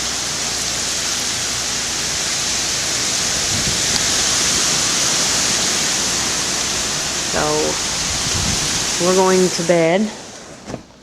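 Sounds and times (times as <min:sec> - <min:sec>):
wind and rain rushing: 0:00.0 - 0:11.0.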